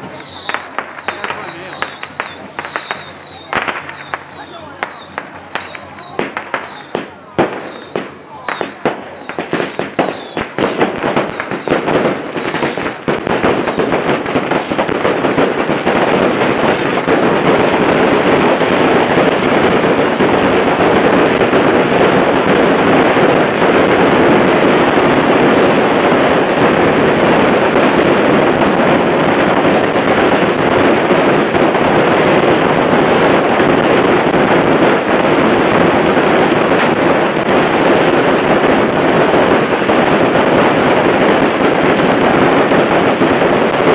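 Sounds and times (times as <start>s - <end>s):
fireworks and firecrackers bangs: 0.0s - 43.9s.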